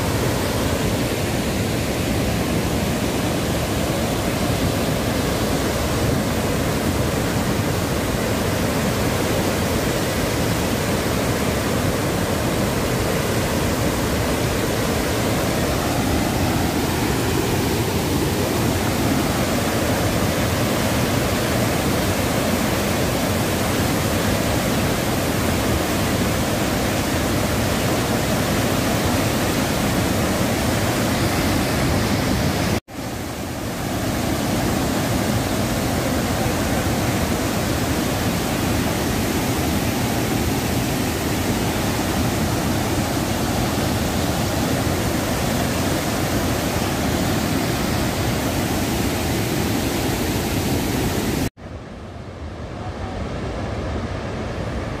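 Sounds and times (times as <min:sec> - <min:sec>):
waterfall rushing: 0:00.0 - 0:51.6.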